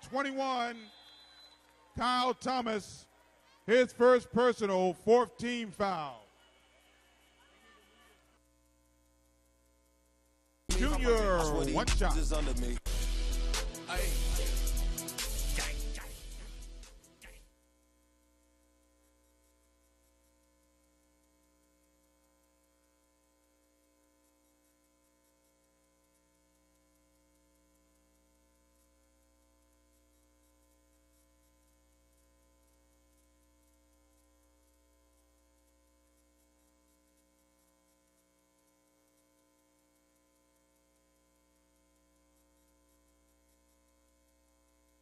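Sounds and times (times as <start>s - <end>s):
faint electrical hum: 0.0s - 11.8s, 17.4s - 45.0s.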